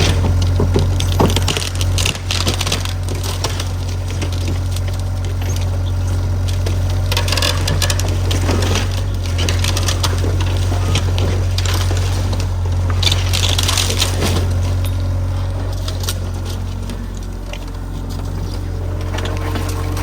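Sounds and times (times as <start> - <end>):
low fire rumble: 0.0 - 20.0
wood crackling and popping: 0.0 - 20.0.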